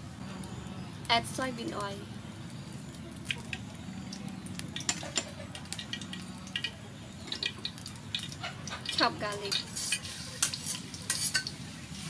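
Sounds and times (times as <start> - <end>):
oil sizzling with pops: 0.0 - 12.0.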